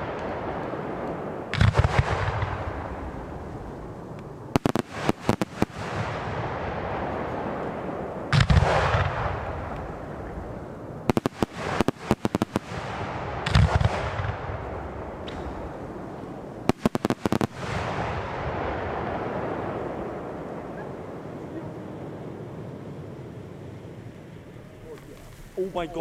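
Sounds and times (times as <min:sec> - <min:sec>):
aerial shell booms: 0:00.0 - 0:23.4
firework cracks: 0:00.0 - 0:26.0.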